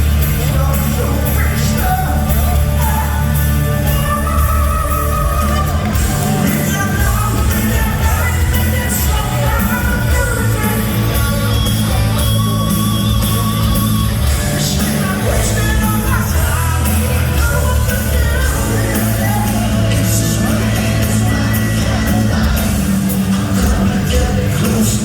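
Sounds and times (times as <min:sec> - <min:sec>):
heavy metal band playing: 0:00.0 - 0:25.0
man singing: 0:00.0 - 0:25.0.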